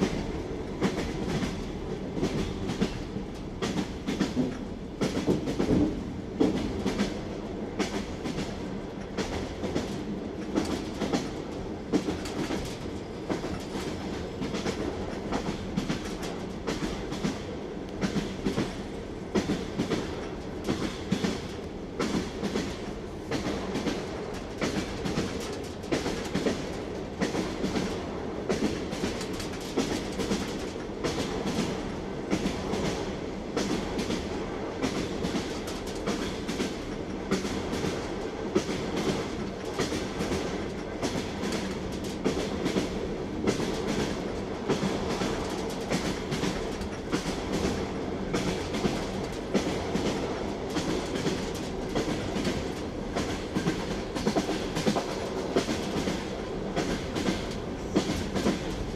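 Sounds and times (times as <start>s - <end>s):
train wheels clattering: 0.0s - 58.9s.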